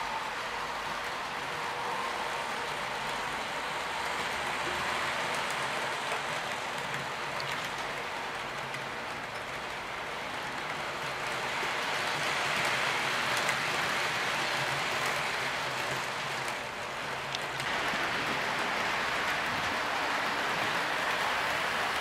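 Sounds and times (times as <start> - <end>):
model train wheels clattering on rails: 0.3 - 22.0.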